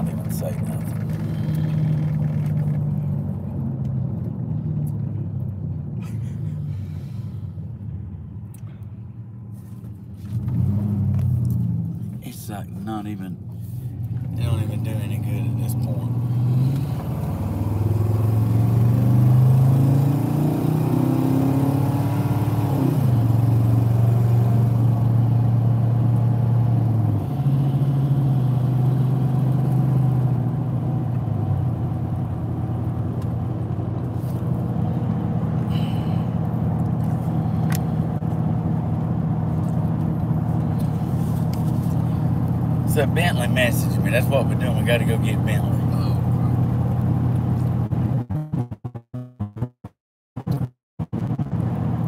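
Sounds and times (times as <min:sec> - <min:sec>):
road noise: 0:00.0 - 0:52.0
vehicle engine humming: 0:00.0 - 0:52.0.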